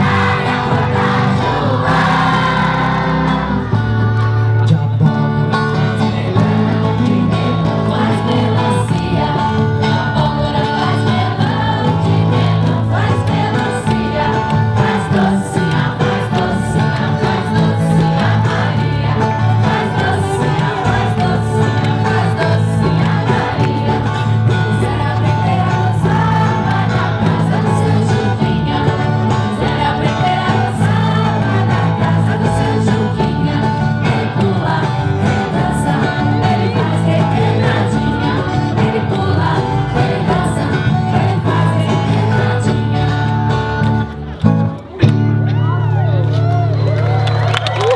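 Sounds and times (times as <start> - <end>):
group singing folk song: 0.0 - 44.9
instrumental accompaniment: 0.0 - 45.8.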